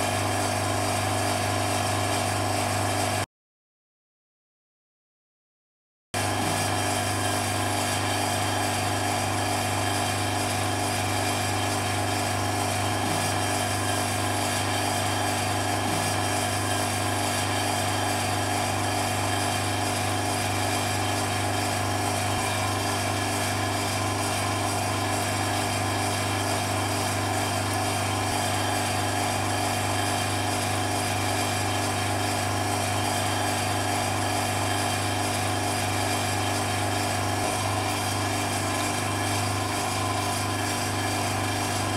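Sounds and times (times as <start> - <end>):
electric vacuum pump humming: 0.0 - 3.2, 6.2 - 41.9.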